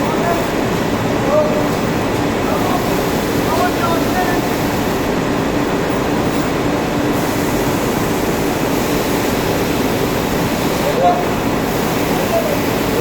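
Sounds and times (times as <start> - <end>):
textile machinery humming: 0.0 - 13.0.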